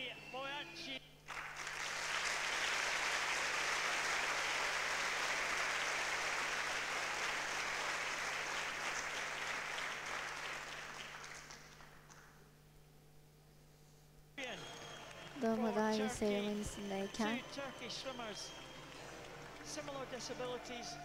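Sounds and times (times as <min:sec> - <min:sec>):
audience applauding: 0:01.3 - 0:12.4, 0:14.4 - 0:21.0.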